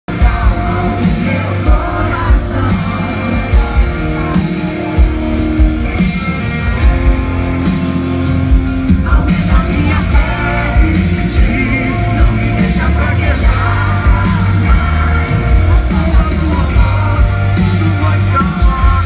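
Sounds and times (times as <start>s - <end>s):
drums: 0.0s - 19.0s
band playing worship song: 0.1s - 19.0s
person singing: 0.1s - 19.0s
steady bass line: 0.1s - 19.0s.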